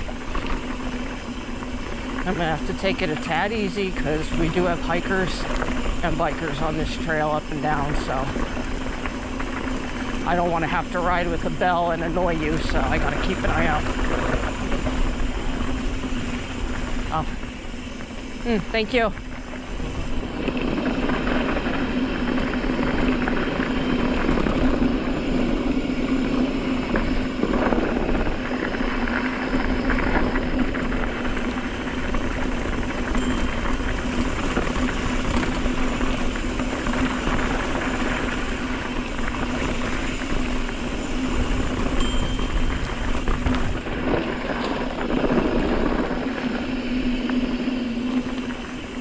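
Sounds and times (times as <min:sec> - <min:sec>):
bike tyres rumbling over dirt: 0:00.0 - 0:49.0
wind buffeting microphone: 0:00.0 - 0:49.0.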